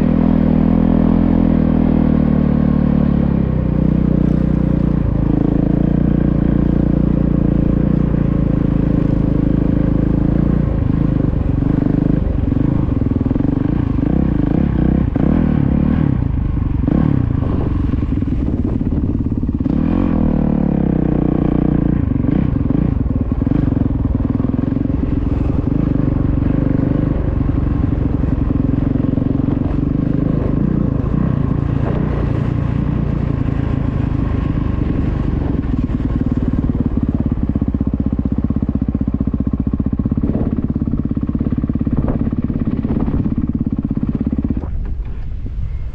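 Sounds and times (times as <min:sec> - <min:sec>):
motorcycle engine at low revs: 0:00.0 - 0:45.9.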